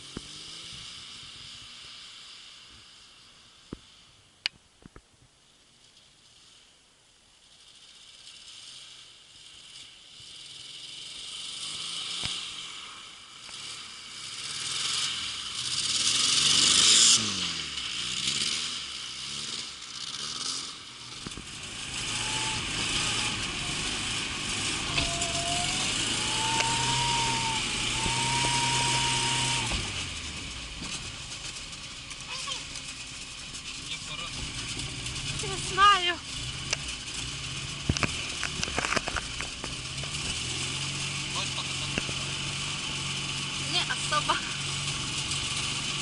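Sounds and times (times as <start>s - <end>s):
car engine revving: 0.0s - 2.7s, 7.9s - 46.0s.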